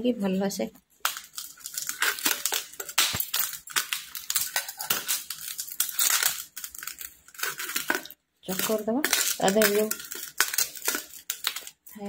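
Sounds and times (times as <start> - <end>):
crunchy dough squishing: 0.6 - 12.0.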